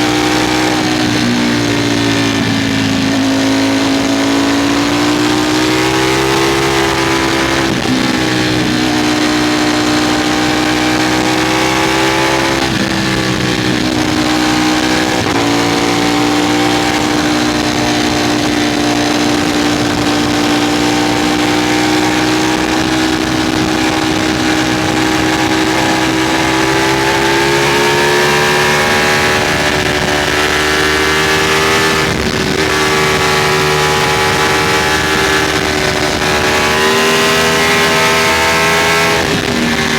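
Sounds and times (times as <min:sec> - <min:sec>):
gear changes: 0:00.0 - 0:39.9
motorcycle engine pulling hard: 0:00.0 - 0:39.9
wind rush: 0:00.0 - 0:39.9.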